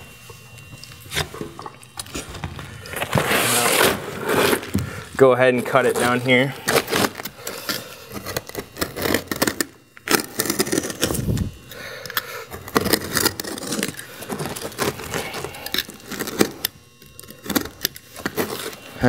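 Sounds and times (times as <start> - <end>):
knife scraping through shingle: 2.2 - 4.9, 5.8 - 18.8.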